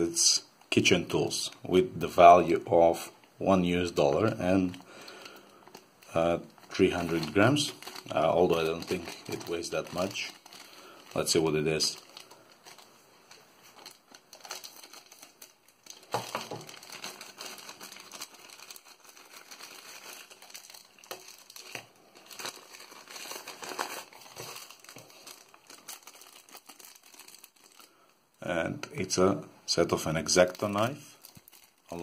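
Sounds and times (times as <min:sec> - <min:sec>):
plastic packaging crinkling: 0:03.6 - 0:28.1, 0:30.2 - 0:32.0.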